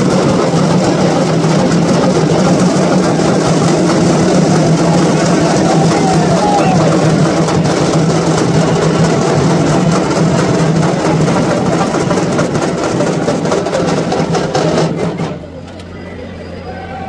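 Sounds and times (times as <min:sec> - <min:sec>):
voices: 0:00.0 - 0:14.4, 0:15.2 - 0:17.0
crowd din: 0:00.0 - 0:17.0.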